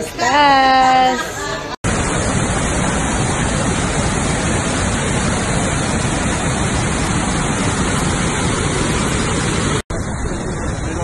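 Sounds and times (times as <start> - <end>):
waterfall rushing: 1.8 - 11.0.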